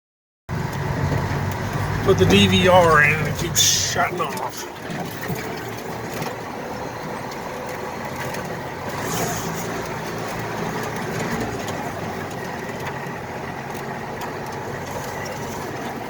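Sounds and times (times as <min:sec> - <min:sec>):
truck engine running: 0:00.5 - 0:16.0.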